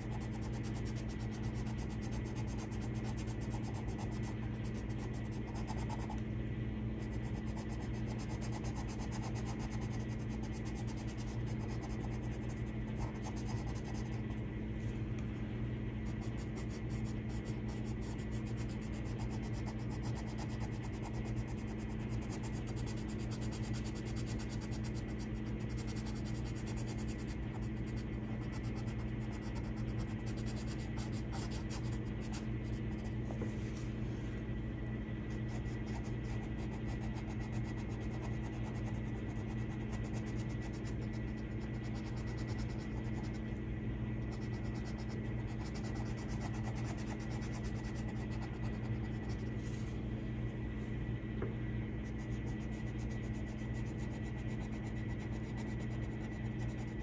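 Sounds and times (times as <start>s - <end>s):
pencil scratching on paper: 0.0s - 6.2s, 7.0s - 14.4s, 16.0s - 33.3s, 35.3s - 43.4s, 44.2s - 49.6s, 52.0s - 57.0s
steady low hum: 0.0s - 57.0s.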